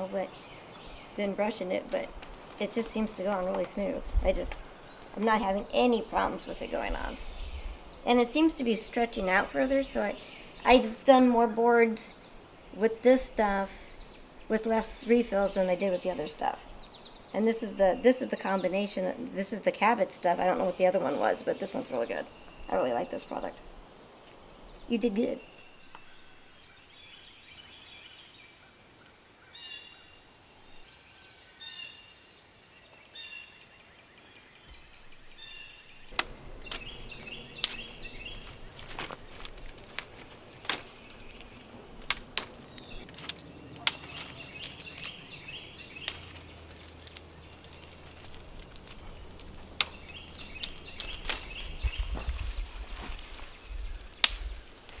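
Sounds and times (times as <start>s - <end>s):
songbirds singing: 0.0s - 55.0s
dry twigs crackling and snapping: 0.3s - 27.0s, 34.7s - 55.0s.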